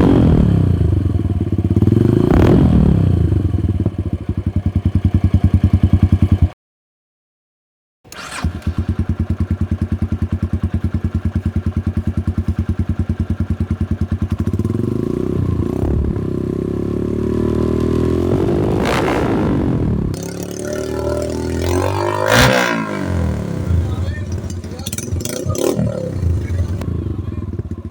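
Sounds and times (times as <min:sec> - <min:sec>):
motorcycle engine idling and revving: 0:00.0 - 0:06.6, 0:08.1 - 0:27.9.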